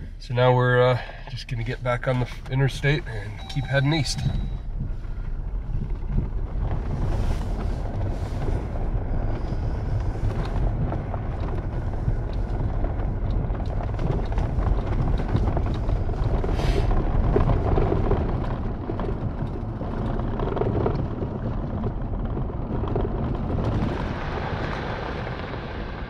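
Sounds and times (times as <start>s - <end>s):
engine and tyres on gravel: 0.0s - 26.0s.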